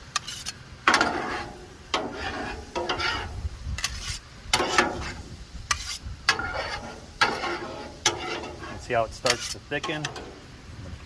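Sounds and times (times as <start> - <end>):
spatula scraping and tapping griddle: 0.0 - 10.4
food sizzling: 0.1 - 10.7.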